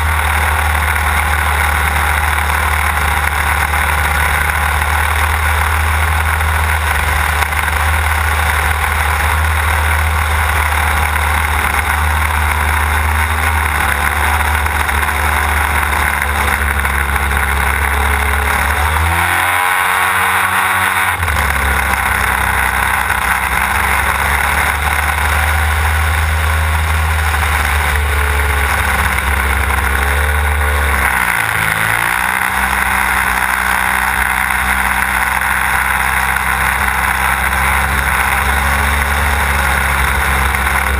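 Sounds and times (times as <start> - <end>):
model plane engine at high power: 0.0 - 40.9.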